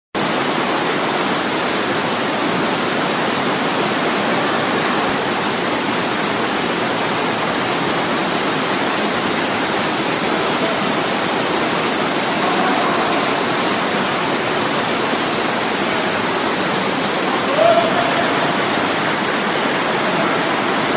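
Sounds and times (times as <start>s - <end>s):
steady rush of water: 0.2s - 20.9s.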